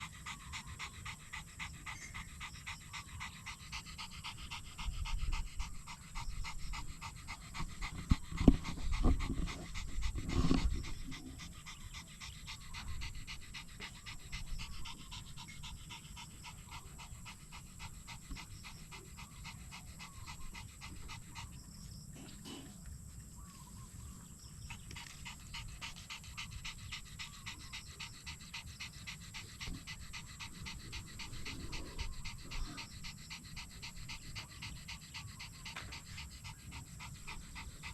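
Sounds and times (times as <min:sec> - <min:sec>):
rapid panting: 0:00.0 - 0:37.9.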